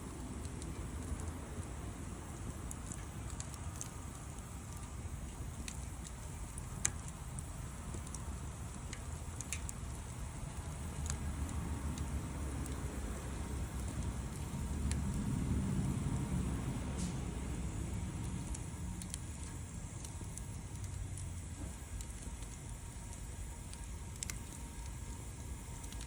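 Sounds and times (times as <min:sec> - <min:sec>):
low rumble: 0:00.0 - 0:26.0
wood fire crackling: 0:00.0 - 0:26.0
sharp pops of fire: 0:02.3 - 0:25.2.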